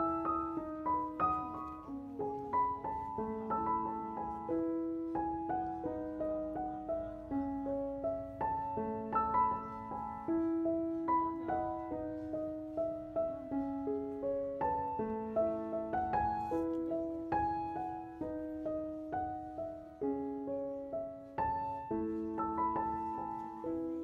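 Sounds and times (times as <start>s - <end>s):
slow piano melody: 0.0s - 24.0s.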